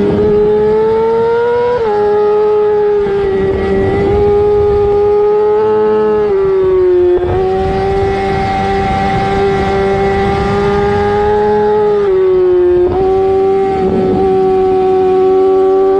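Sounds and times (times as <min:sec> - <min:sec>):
motorcycle engine at high revs: 0:00.0 - 0:15.9.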